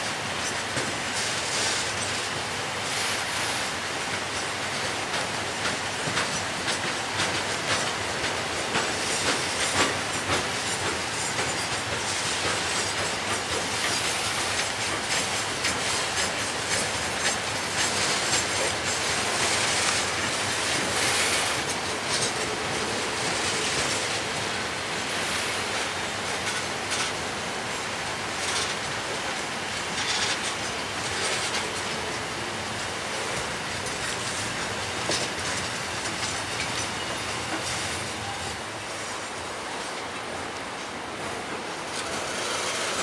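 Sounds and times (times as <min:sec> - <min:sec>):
steel wheels rumbling on rail: 0:00.0 - 0:43.0
wheels clicking over rail joints: 0:04.2 - 0:27.3, 0:28.2 - 0:38.4, 0:39.8 - 0:43.0.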